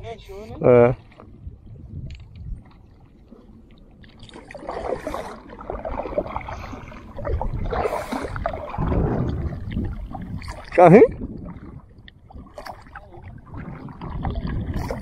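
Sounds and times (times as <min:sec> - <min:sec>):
kayak paddle splashing: 0:01.0 - 0:15.0.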